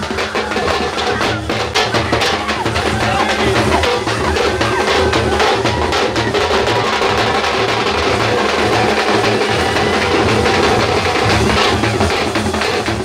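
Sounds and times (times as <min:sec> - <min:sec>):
loud fast drumming: 0:00.0 - 0:13.0.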